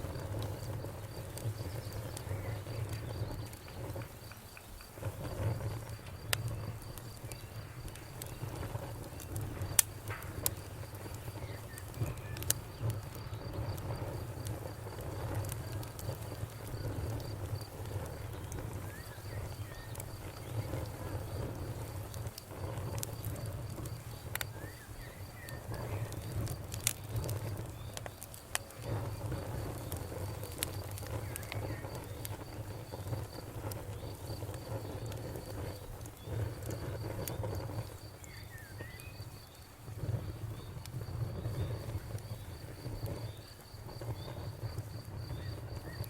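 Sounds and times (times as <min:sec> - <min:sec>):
campfire crackling and popping: 0:00.0 - 0:46.0
crickets chirping: 0:00.0 - 0:46.0.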